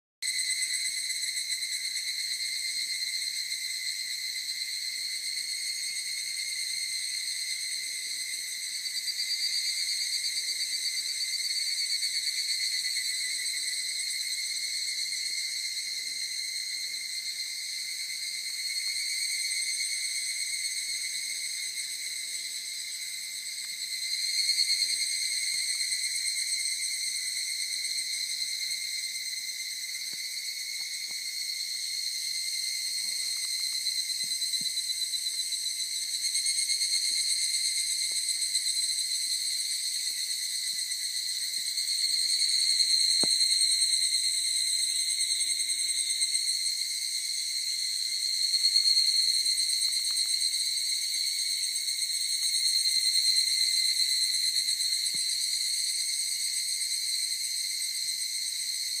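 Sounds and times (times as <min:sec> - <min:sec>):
cicadas buzzing: 0:00.2 - 0:59.0.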